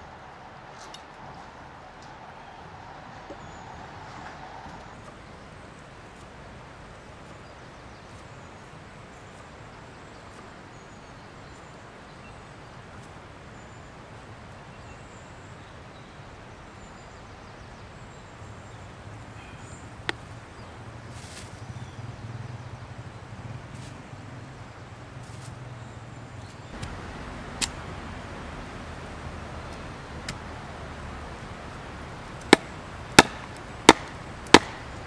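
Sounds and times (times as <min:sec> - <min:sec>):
outdoor background noise: 0:00.0 - 0:35.0.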